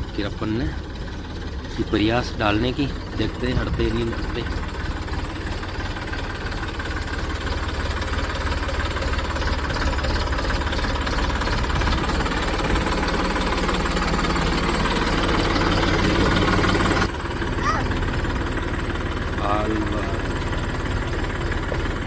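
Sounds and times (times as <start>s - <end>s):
tractor diesel engine knocking: 0.0s - 22.0s.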